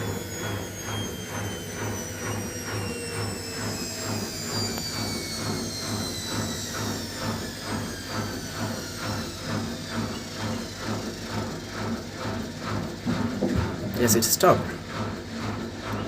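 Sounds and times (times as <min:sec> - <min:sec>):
washing machine spin slowing: 0:00.0 - 0:16.0.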